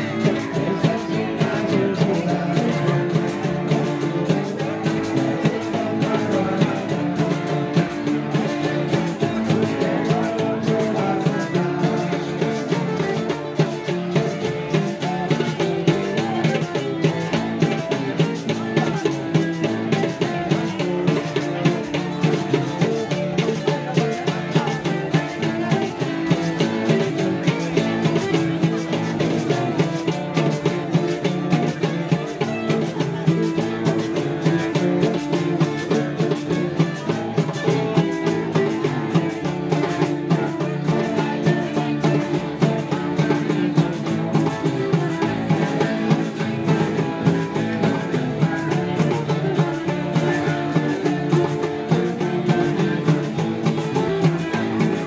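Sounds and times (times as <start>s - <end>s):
steady drum beat: 0.0s - 55.0s
strummed guitars: 0.0s - 55.0s.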